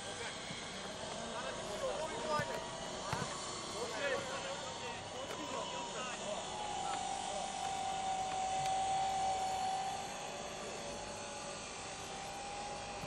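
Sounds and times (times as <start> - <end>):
open-air background noise: 0.0 - 13.0.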